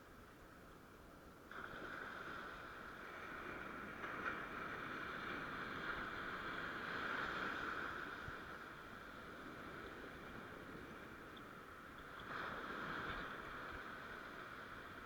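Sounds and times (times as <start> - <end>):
surf washing on shore: 1.5 - 15.0.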